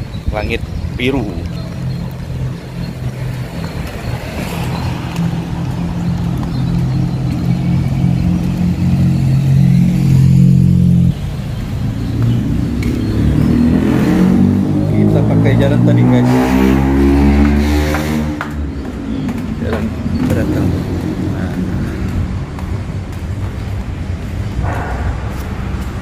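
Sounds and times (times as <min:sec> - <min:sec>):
car engine humming: 0:00.0 - 0:26.0.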